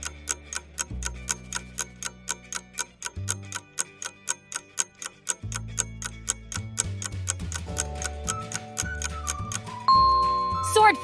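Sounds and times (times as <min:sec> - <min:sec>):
background music with low bass: 0:00.0 - 0:11.0
clock ticking: 0:00.0 - 0:11.0.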